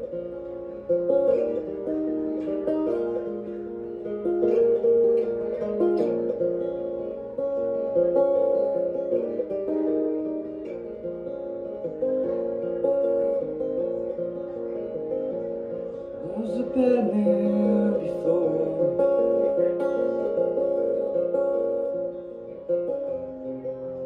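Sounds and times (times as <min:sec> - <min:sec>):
plucked acoustic guitar: 0:00.0 - 0:24.0.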